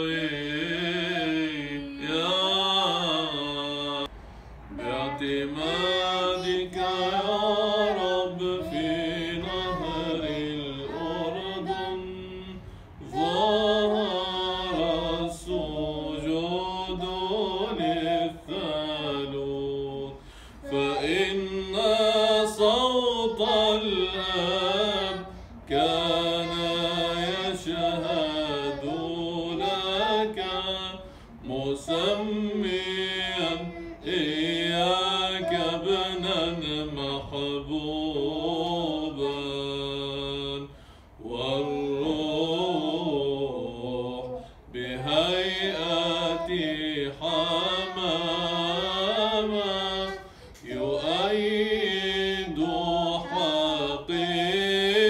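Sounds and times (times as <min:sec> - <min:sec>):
man and boy chanting: 0:00.0 - 0:55.0.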